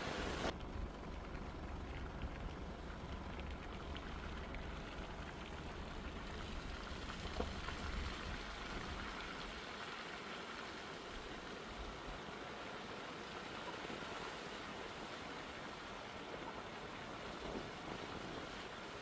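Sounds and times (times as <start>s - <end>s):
rain and running water: 0.0s - 19.0s.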